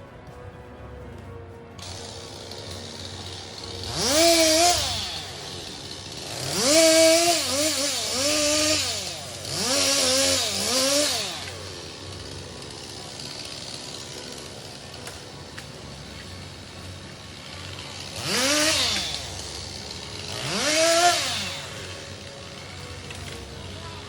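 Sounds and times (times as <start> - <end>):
chainsaw revving: 1.8 - 24.0.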